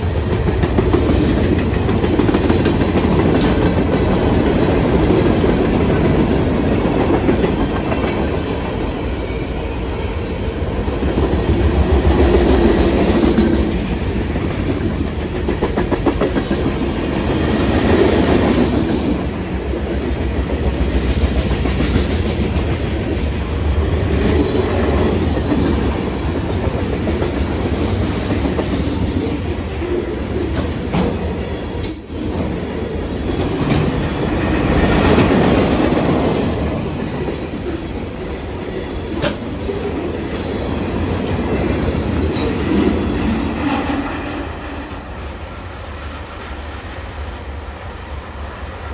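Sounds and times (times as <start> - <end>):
wheels clacking over rail joints: 0.0 - 9.7, 11.0 - 45.0
freight train rumble: 0.0 - 48.9.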